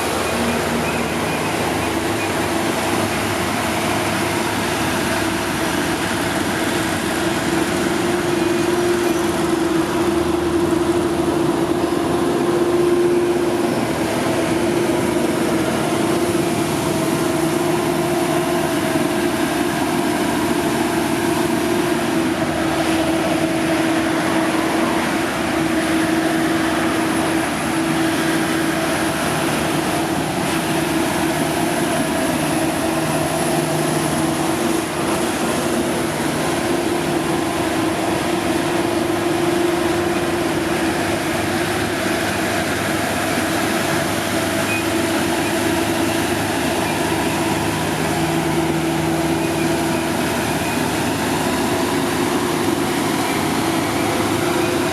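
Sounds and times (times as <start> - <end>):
diesel machinery engine drone: 0.0 - 54.9.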